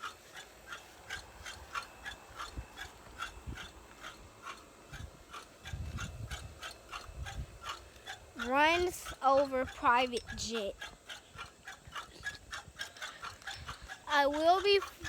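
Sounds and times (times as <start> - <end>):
dog panting: 0.1 - 15.0
wind rumble on microphone: 1.1 - 15.0.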